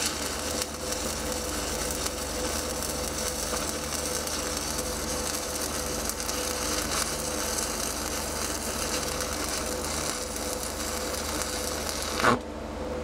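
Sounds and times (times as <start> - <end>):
welding arc crackle and hiss: 0.0 - 12.5.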